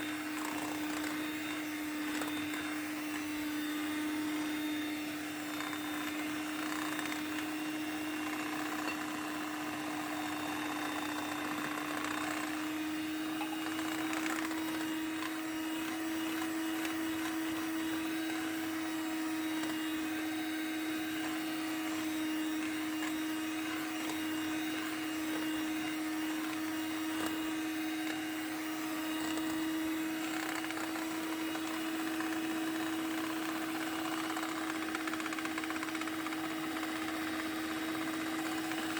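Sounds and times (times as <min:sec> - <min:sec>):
electric mixer running: 0:00.0 - 0:38.9.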